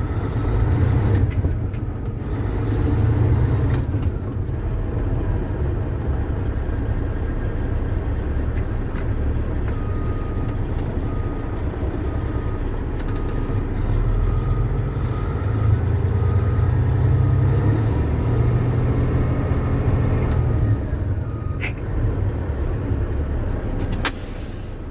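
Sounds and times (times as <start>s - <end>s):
diesel truck engine rumbling: 0.0s - 24.9s.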